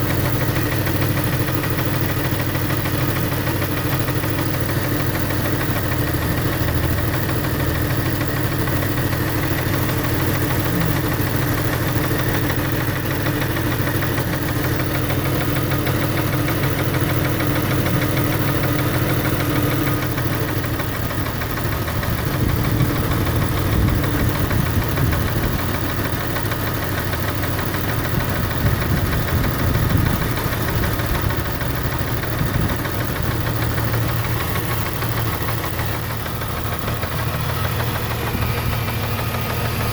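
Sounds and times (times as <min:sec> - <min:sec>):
car engine idling: 0:00.0 - 0:39.9
rapid even engine ticking: 0:00.0 - 0:39.9.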